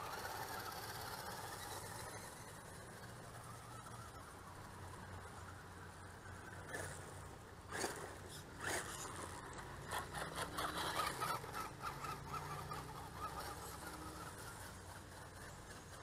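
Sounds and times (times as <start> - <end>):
tyres rushing on dirt: 0.0 - 5.4, 6.4 - 16.0
rc truck motor whining: 0.0 - 16.0.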